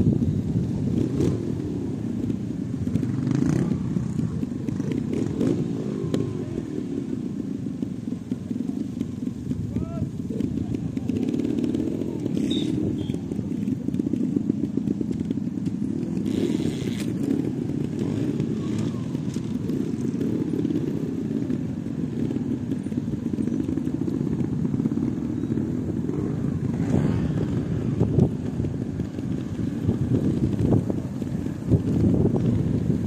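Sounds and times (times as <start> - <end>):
motorcycle engine revving: 0.0 - 33.0
motorcycle engines idling: 0.0 - 33.0.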